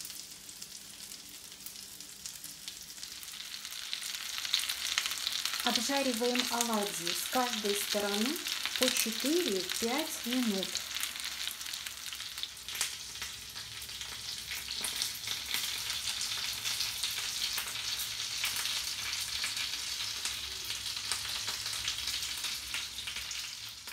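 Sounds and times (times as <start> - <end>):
oil sizzling with small pops: 0.0 - 23.9.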